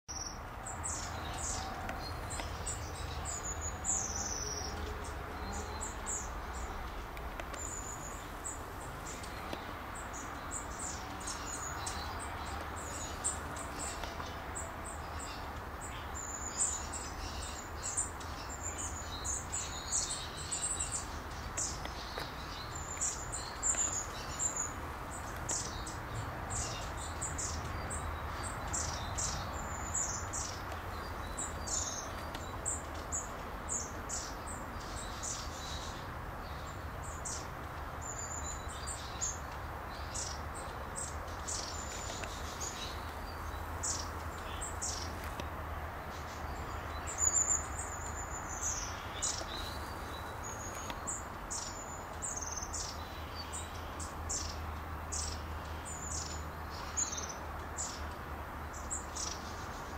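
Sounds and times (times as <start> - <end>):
small birds chirping: 0.1 - 59.9.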